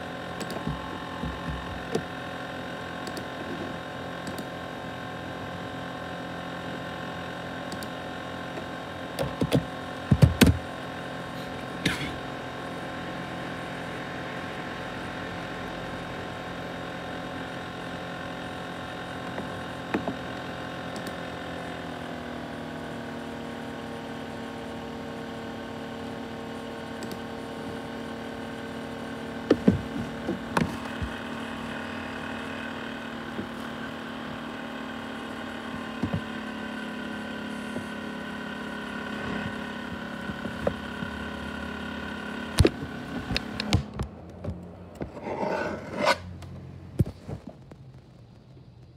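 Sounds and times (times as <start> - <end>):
laptop fan whine: 0.0 - 48.9.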